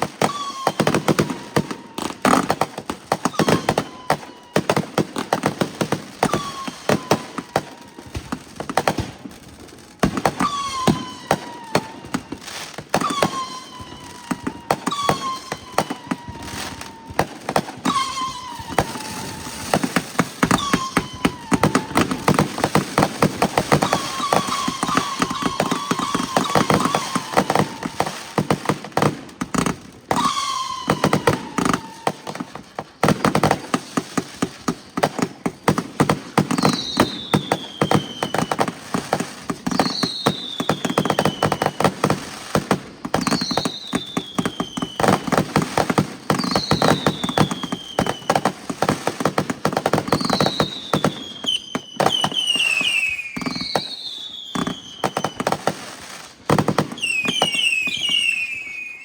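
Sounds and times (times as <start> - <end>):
falling firework whistle: 0.0 - 59.0
fireworks crackling and banging: 0.0 - 59.0.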